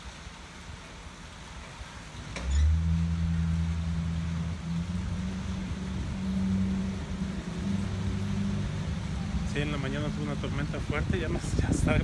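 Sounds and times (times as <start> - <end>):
engine humming: 1.0 - 12.0.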